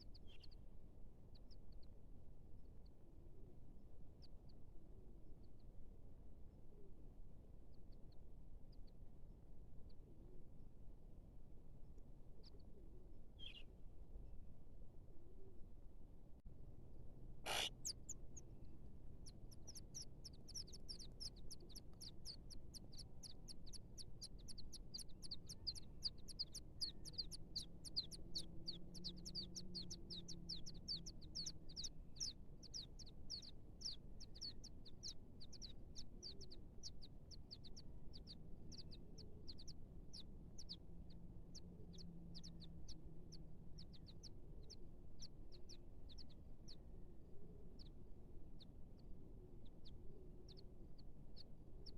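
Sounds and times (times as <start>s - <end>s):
small bird chirping: 0.0s - 5.9s, 6.6s - 10.4s, 12.0s - 13.8s, 17.4s - 51.9s.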